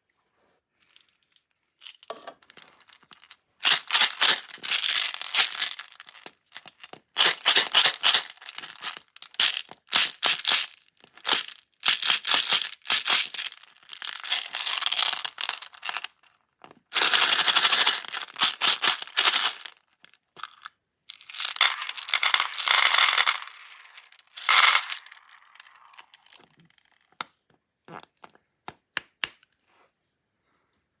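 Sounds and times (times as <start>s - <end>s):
plastic beads rattling in trays: 0.8s - 27.0s.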